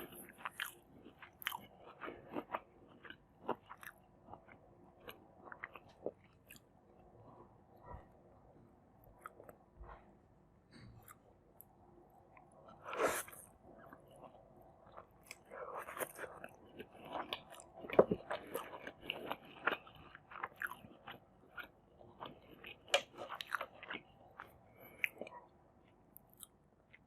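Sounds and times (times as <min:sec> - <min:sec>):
chewing and crunching food: 0:00.0 - 0:08.1, 0:09.0 - 0:10.0, 0:11.0 - 0:27.0.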